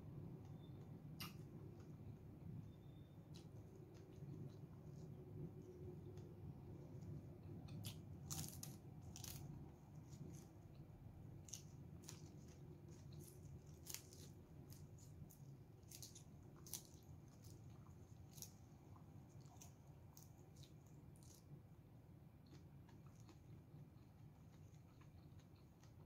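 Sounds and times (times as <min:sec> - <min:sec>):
person chewing leafy greens: 0:00.5 - 0:26.0.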